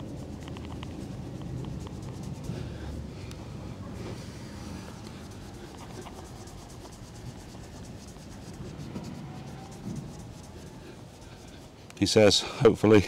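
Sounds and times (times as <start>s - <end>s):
cloth rubbing on painted metal: 0.0s - 12.4s.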